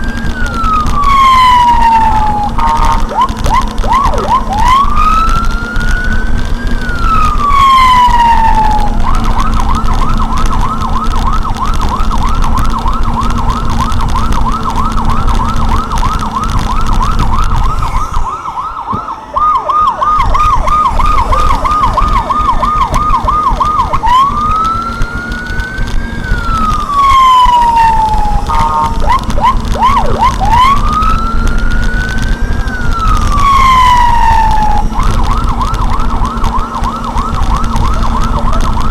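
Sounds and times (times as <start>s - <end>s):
electronic vehicle siren: 0.0s - 38.9s.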